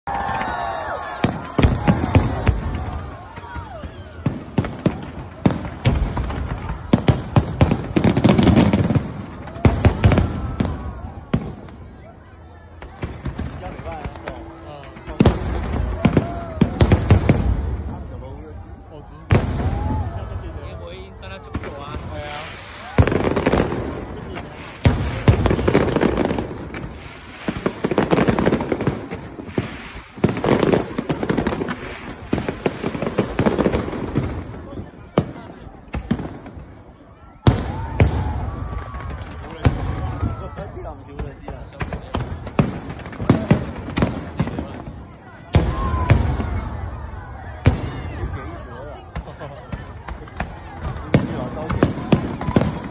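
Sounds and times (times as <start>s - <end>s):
firework crackling: 0.1s - 18.5s, 19.2s - 52.9s
firework booms: 1.2s - 12.0s, 12.7s - 18.2s, 19.2s - 20.6s, 21.4s - 52.9s.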